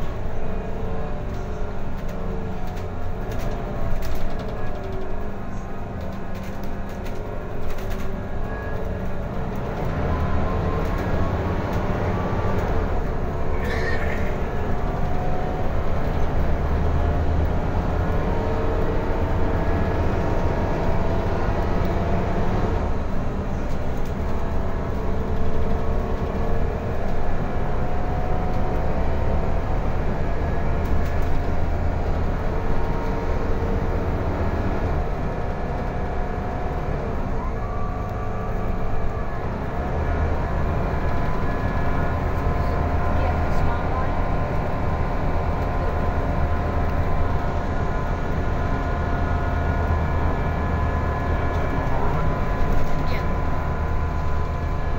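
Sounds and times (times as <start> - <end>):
bus engine drone: 0.0 - 54.9.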